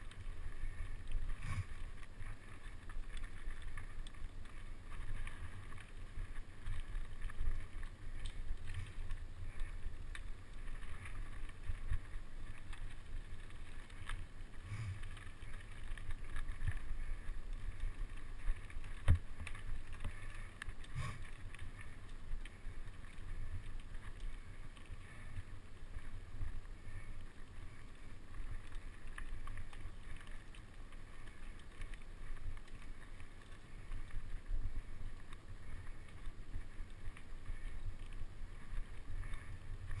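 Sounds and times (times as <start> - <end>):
bike rattling: 0.0 - 40.0
bike tyres rumbling on dirt: 0.0 - 40.0.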